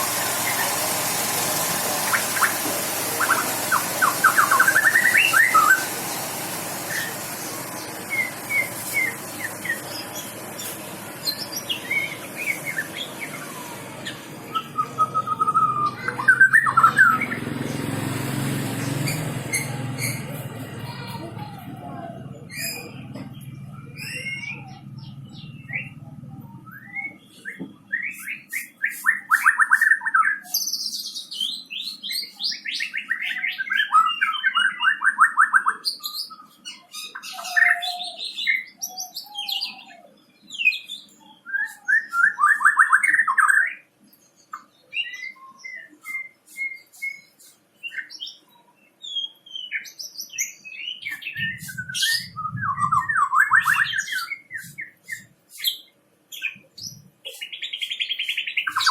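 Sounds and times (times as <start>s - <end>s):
bird singing whistled phrases and trills: 3.2s - 5.9s, 7.8s - 10.3s, 11.2s - 17.4s, 22.5s - 43.8s, 44.4s - 58.9s.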